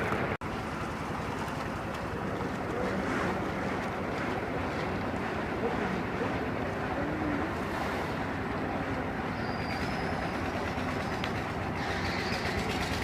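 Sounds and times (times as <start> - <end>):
heavy diesel engine rumbling: 0.0 - 13.0.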